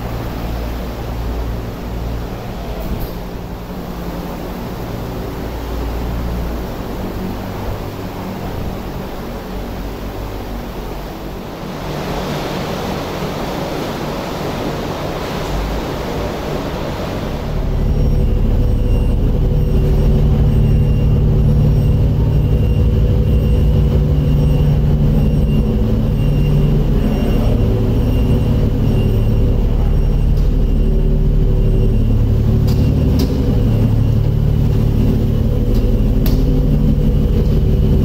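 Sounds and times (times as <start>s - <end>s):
ferry engines droning: 0.0s - 38.0s
rushing air noise: 0.0s - 38.0s.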